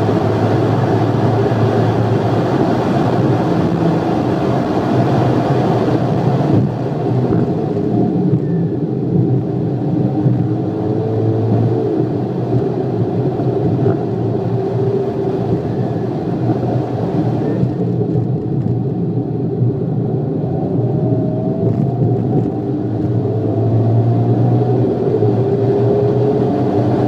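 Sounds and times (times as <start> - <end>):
car engine running hard: 0.0 - 27.0.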